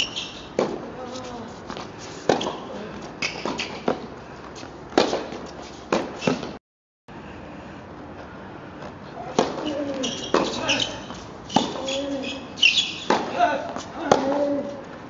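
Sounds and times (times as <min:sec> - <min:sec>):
racket hitting tennis ball: 0:00.0 - 0:06.6, 0:09.2 - 0:14.7
tennis ball bouncing: 0:00.0 - 0:06.6, 0:08.8 - 0:14.6.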